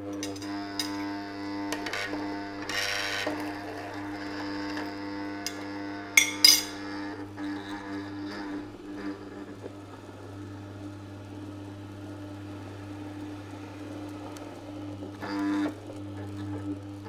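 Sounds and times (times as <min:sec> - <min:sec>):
juicer humming: 0:00.0 - 0:17.0.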